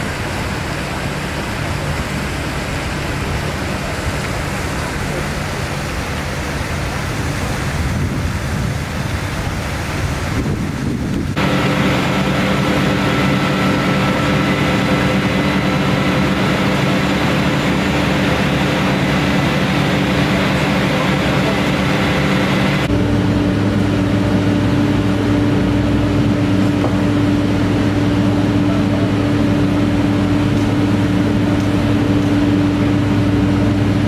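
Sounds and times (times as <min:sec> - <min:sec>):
deep steady engine hum: 0:00.0 - 0:34.0
fire engine pump diesel engine: 0:00.0 - 0:34.0.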